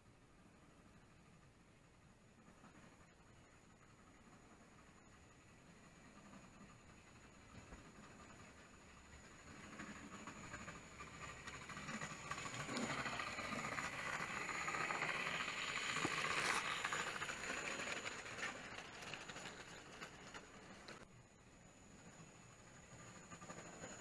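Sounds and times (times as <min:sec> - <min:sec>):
model train wheels rattling: 0:00.6 - 0:24.0
model train motor whirring: 0:00.7 - 0:24.0.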